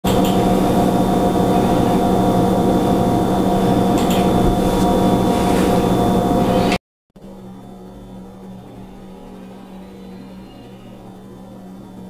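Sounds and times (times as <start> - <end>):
machine-like drone: 0.1 - 12.0.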